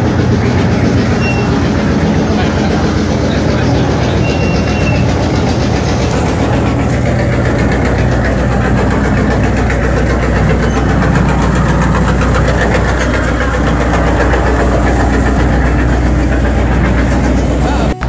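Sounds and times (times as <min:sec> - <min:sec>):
boat diesel engine running: 0:00.0 - 0:18.0.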